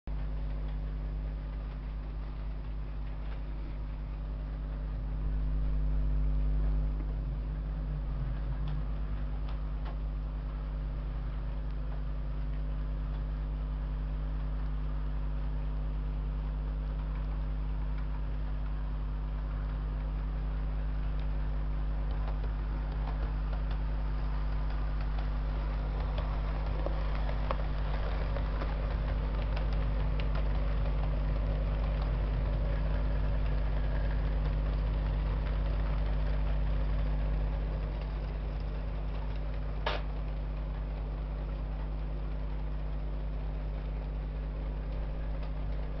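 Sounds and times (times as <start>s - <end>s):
model train motor hum: 0.1s - 46.0s
wheels clicking over rail joints: 0.1s - 46.0s.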